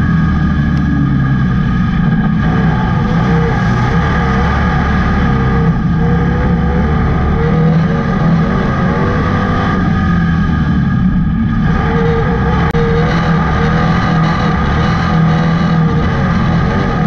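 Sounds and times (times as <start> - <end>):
race car engine rumbling: 0.0 - 17.0.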